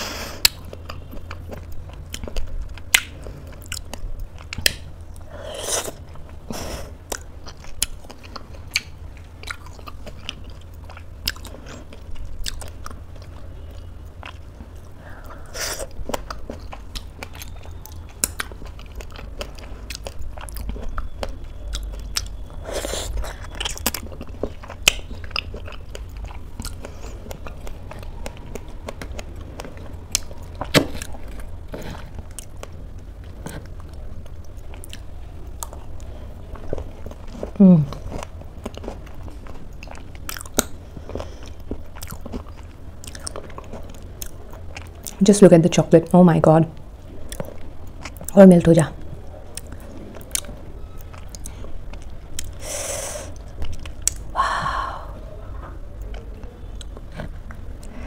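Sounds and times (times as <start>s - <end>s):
steady low hum: 0.0s - 58.0s
chewing and biting: 0.4s - 45.2s, 47.1s - 48.4s, 49.2s - 52.6s, 53.3s - 54.3s, 55.9s - 58.0s.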